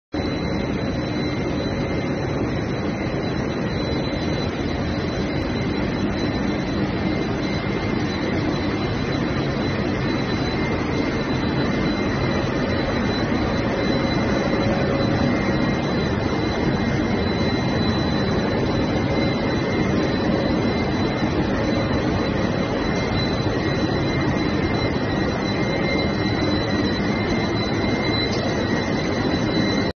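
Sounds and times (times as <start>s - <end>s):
thin high whine: 0.2s - 29.9s.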